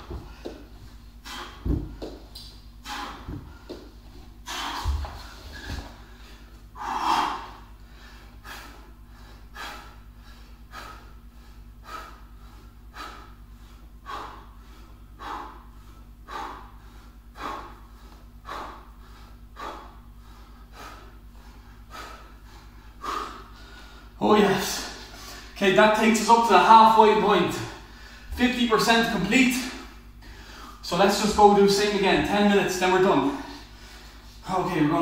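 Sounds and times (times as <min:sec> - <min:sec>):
man breathing hard: 0:00.0 - 0:25.6, 0:27.4 - 0:28.4, 0:29.0 - 0:34.5.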